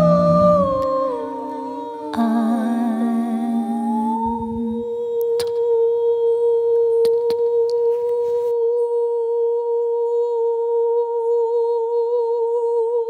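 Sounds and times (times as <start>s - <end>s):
person humming a held note: 0.0s - 13.0s.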